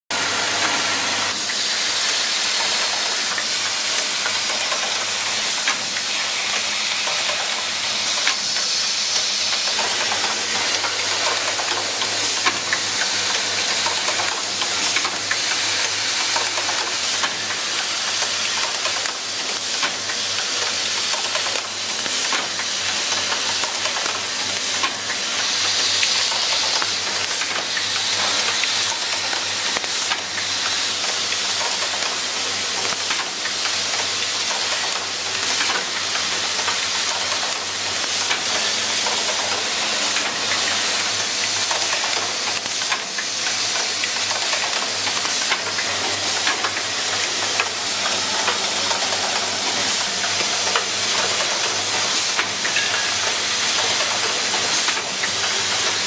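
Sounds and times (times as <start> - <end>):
machine hiss: 0.1 - 56.0.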